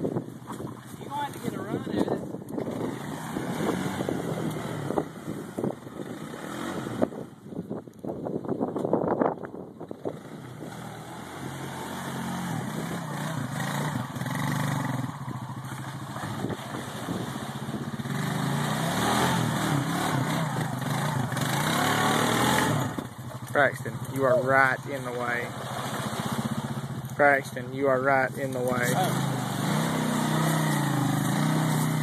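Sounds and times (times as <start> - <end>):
atv engine revving: 0.0 - 7.5, 9.8 - 32.0.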